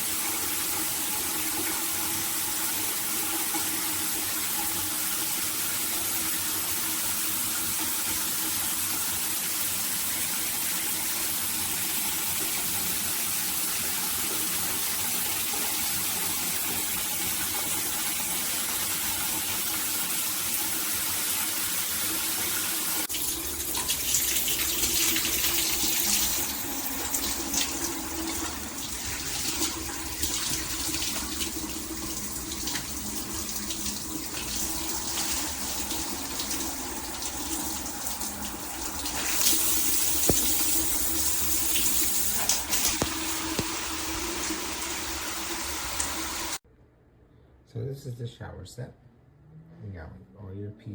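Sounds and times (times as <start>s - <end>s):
shower water spraying: 0.0s - 46.6s.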